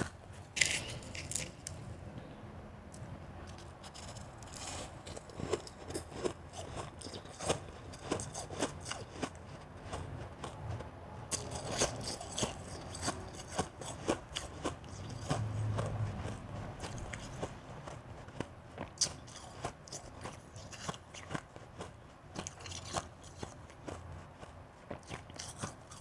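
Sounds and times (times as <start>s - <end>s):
chewing crunchy ice: 0.0s - 1.9s, 3.4s - 26.0s.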